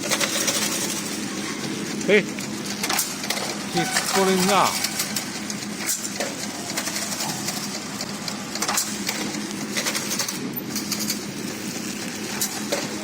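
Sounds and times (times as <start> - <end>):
machine humming: 0.0 - 13.0
mechanical clicks and clatter: 0.0 - 13.0.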